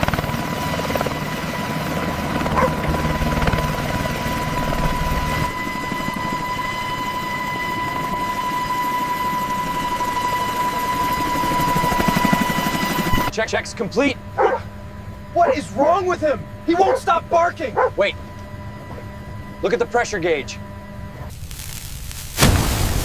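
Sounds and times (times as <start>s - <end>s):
helicopter rotor beat: 0.0s - 21.3s
high whine: 2.0s - 23.0s.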